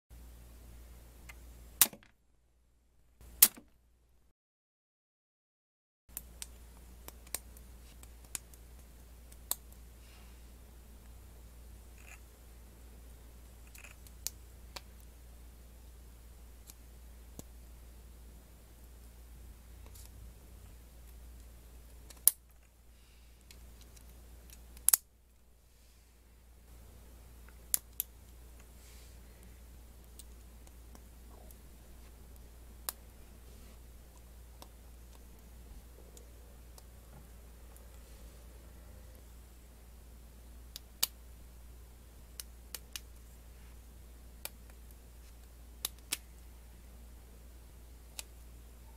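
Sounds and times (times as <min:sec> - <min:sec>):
steady low hum: 0:06.1 - 0:48.9.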